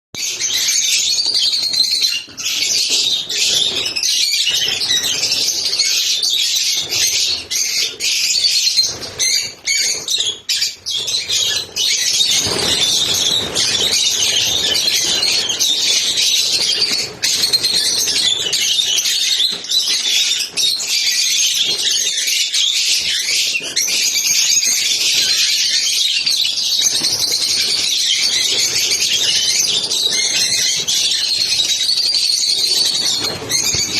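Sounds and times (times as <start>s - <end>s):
lovebirds chattering: 0.2s - 33.9s.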